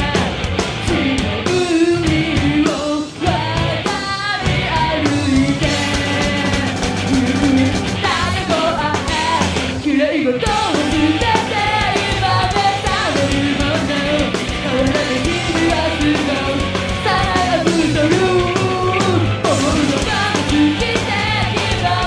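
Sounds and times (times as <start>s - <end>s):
distorted electric guitar: 0.0s - 22.0s
drums: 0.0s - 22.0s
woman singing: 0.9s - 18.8s, 19.6s - 22.0s.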